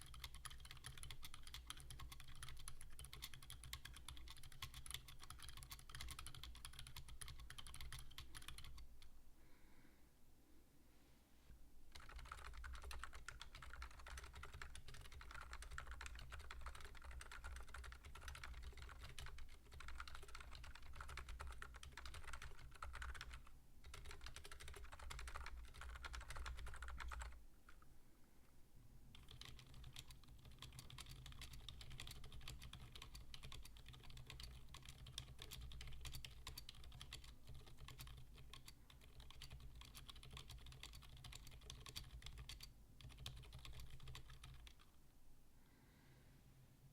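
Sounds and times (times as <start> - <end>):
quiet keyboard typing: 0.0 - 9.2, 11.8 - 27.9, 29.1 - 45.0.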